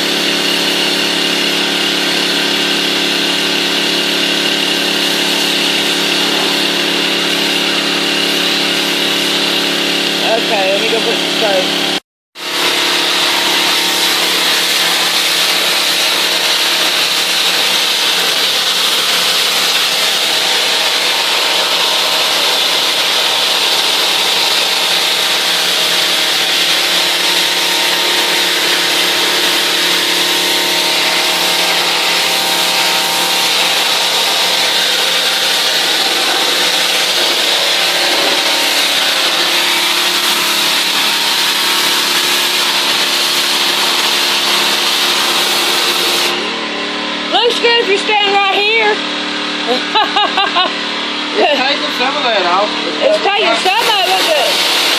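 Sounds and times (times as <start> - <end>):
water jet hissing: 0.0 - 46.5, 51.4 - 54.9
pressure washer motor humming: 0.0 - 54.9.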